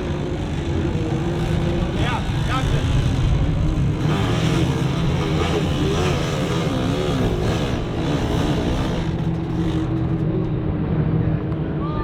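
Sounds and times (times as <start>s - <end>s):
engine revving under load: 0.0s - 10.7s.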